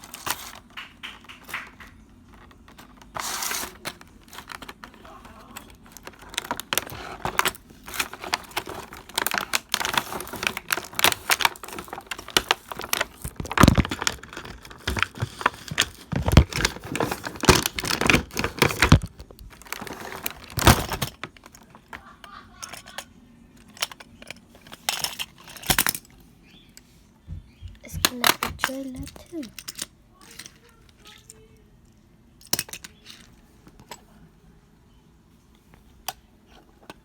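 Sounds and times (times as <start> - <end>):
plastic toy pieces clicking and rattling: 0.0 - 26.1, 27.9 - 31.6, 32.4 - 34.0.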